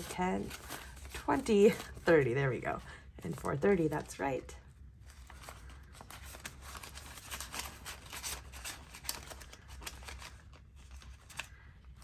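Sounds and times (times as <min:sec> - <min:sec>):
paper banknotes rustling: 0:00.0 - 0:04.2, 0:05.0 - 0:12.0
plastic envelope crinkling: 0:00.0 - 0:04.2, 0:04.9 - 0:12.0.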